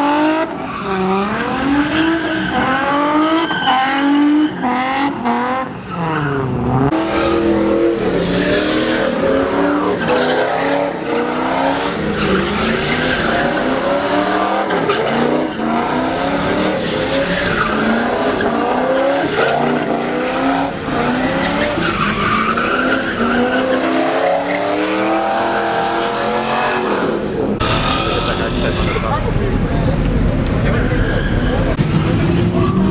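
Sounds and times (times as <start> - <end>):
tire squeal: 0.0 - 28.4, 30.6 - 32.9.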